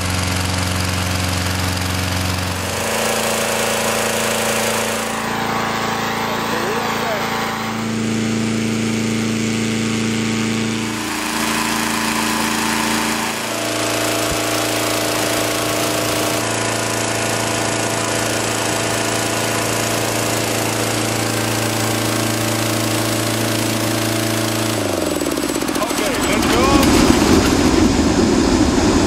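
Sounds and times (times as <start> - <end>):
small petrol engine running: 0.0 - 29.0.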